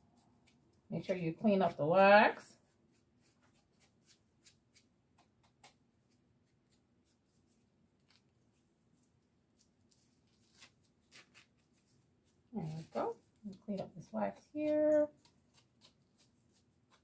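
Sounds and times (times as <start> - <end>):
faint rustles and crinkles: 2.5 - 17.0.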